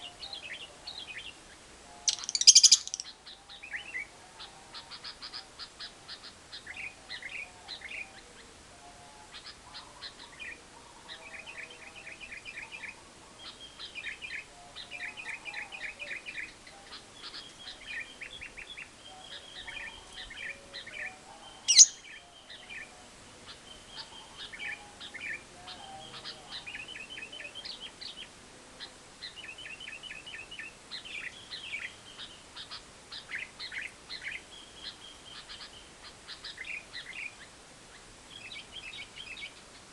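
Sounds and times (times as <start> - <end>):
lovebirds chattering in trills: 0.0 - 39.9.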